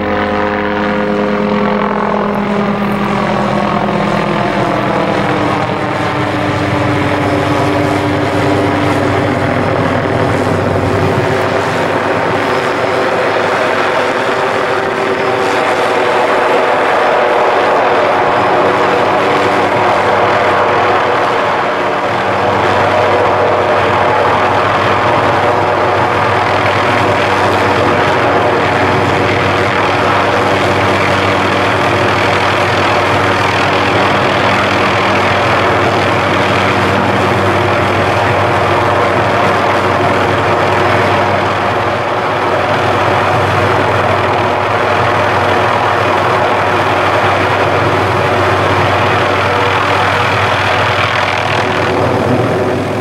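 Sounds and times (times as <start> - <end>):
helicopter hovering: 0.0 - 53.0.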